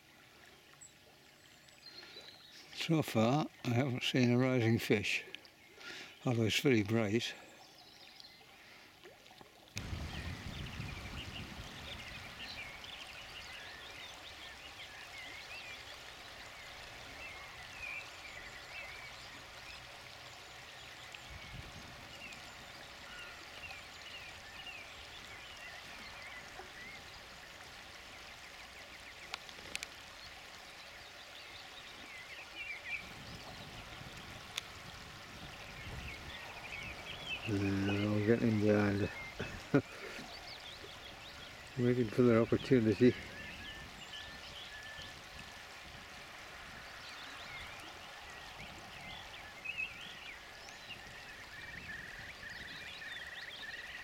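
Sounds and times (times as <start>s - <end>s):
river rushing over gravel: 9.8s - 54.0s
small birds chirping: 9.8s - 54.0s.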